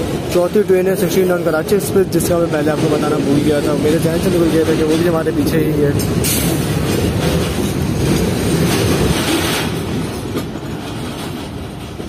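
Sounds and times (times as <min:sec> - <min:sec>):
freight train rumbling: 0:00.0 - 0:12.0
wheels clacking over rail joints: 0:00.0 - 0:12.0.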